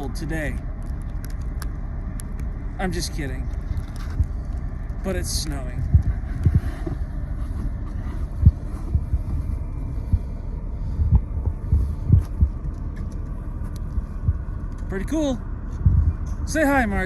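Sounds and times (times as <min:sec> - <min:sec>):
wind buffeting microphone: 0:00.0 - 0:17.0
low thumps: 0:00.6 - 0:16.6.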